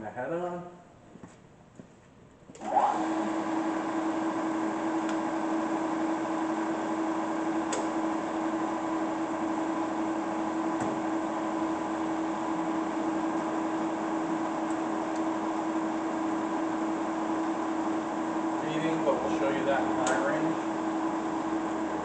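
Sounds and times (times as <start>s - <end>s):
milling machine whine: 2.6s - 22.0s.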